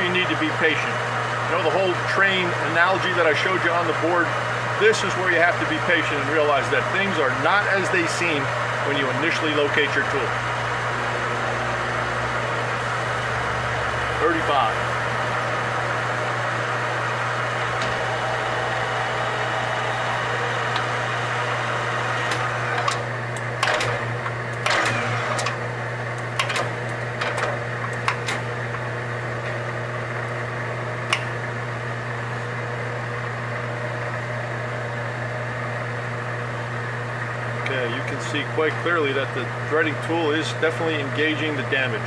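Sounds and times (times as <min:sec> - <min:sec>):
metal lathe motor hum: 0:00.0 - 0:42.0.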